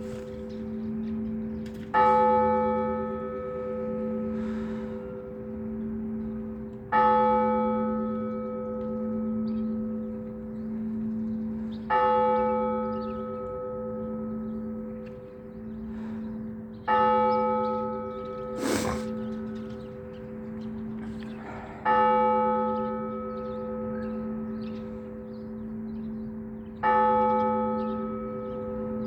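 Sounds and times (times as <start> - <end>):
church bell tolling: 0.0 - 18.6, 19.3 - 29.0.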